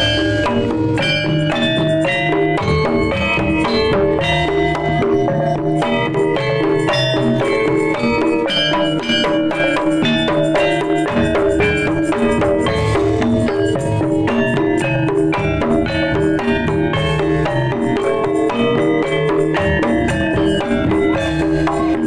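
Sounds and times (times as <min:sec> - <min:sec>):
fast tuned percussion pattern: 0:00.0 - 0:22.0
kendang drums amplified: 0:00.0 - 0:22.0.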